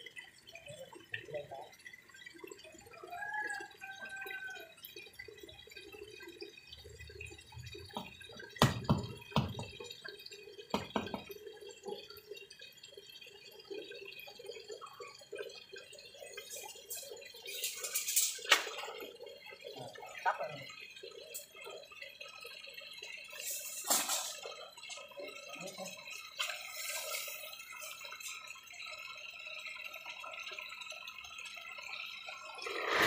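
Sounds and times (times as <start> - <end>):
water trickling into pond: 0.0 - 33.0.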